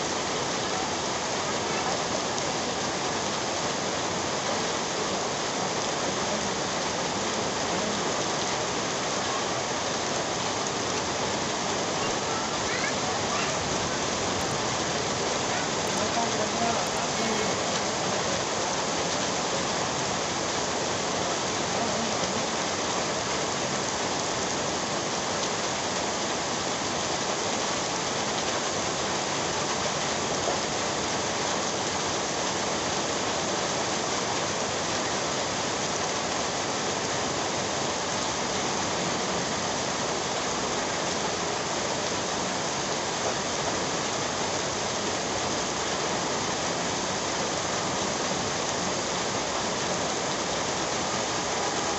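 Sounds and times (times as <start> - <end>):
heavy rain on pavement: 0.0 - 51.9.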